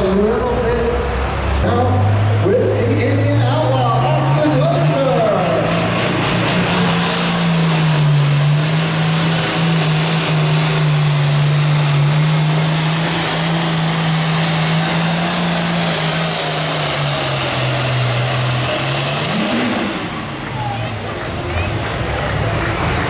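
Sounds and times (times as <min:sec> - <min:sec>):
diesel engine at full throttle: 0:00.0 - 0:23.0.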